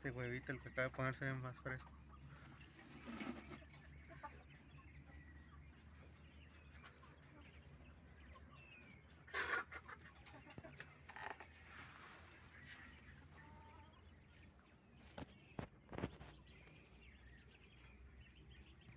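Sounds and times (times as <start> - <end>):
poultry clucking: 0.0 - 18.9.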